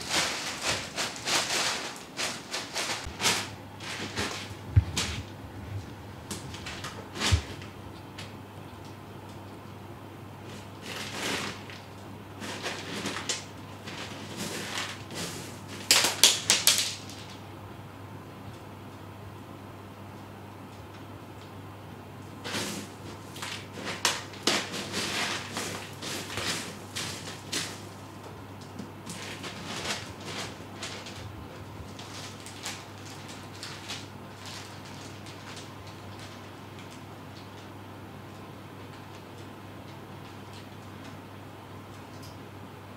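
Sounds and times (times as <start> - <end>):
cat scratching pellet litter: 0.0 - 9.4, 10.4 - 17.4, 22.2 - 41.1.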